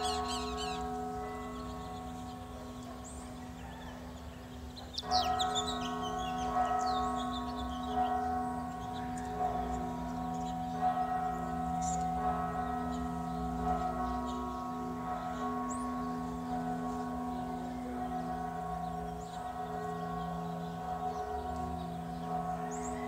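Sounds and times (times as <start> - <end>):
birds chirping: 0.0 - 23.0
church bell tolling: 0.0 - 23.0.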